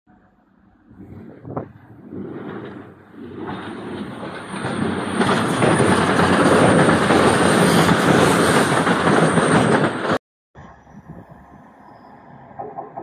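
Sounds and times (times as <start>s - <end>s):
diesel train rumble: 0.1s - 13.0s.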